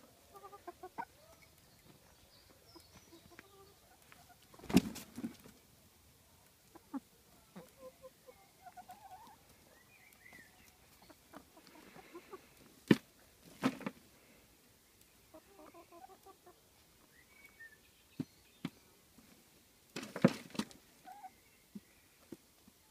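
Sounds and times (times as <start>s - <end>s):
chickens clucking: 0.0s - 5.7s, 6.4s - 14.1s, 15.0s - 17.2s, 18.6s - 22.8s.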